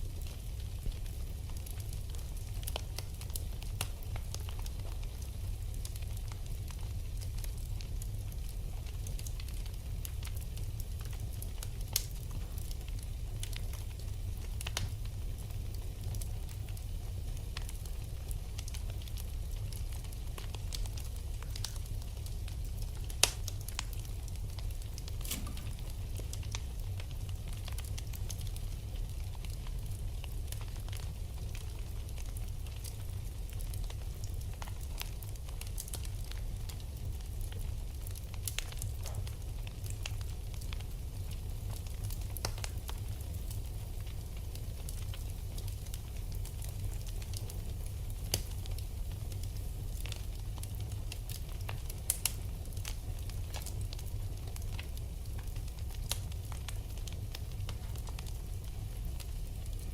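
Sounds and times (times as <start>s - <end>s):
fire crackles and pops: 0.0s - 59.9s
fire flames rumbling: 0.0s - 59.9s.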